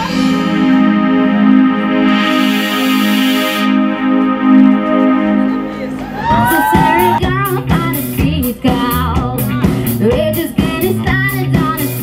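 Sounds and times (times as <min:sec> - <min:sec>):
keyboard chords: 0:00.0 - 0:11.8
rock band playing: 0:00.0 - 0:12.0.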